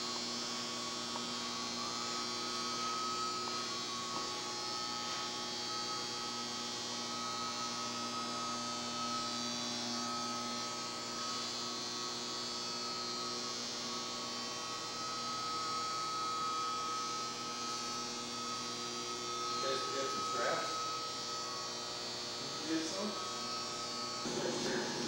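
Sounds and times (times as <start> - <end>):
electrical hum with fixed tones: 0.0 - 25.0.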